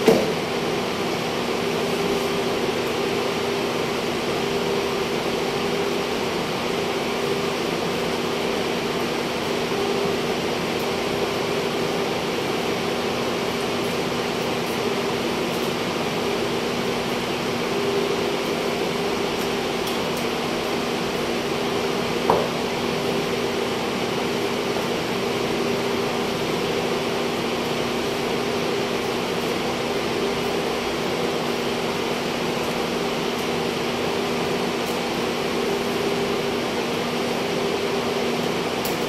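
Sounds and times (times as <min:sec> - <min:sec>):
refrigeration fans whirring: 0:00.0 - 0:39.0.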